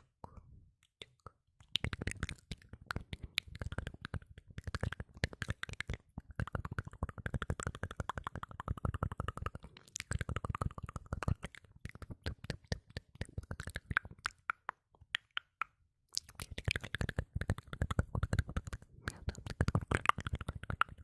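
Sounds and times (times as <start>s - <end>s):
wet mouth clicks and pops: 0.2s - 21.0s.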